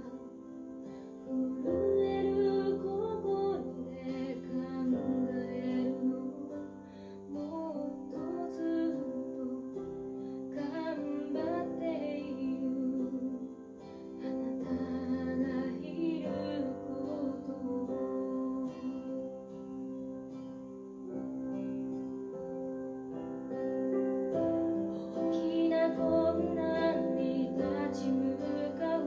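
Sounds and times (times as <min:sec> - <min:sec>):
woman singing: 0:00.0 - 0:20.4, 0:24.9 - 0:29.0.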